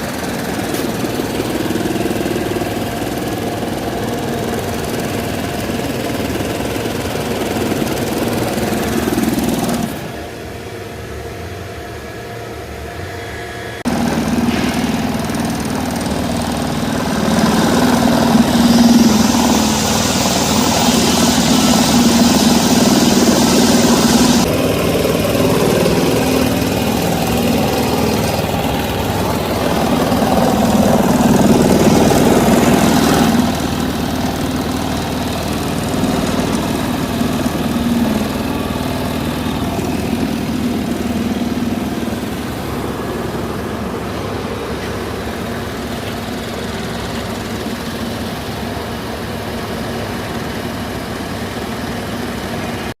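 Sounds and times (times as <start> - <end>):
machine drone with low hum: 0.0 - 52.9.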